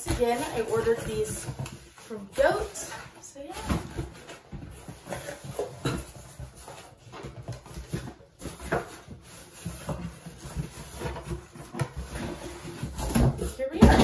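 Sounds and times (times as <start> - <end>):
cardboard box rustling and scraping: 0.0 - 14.0.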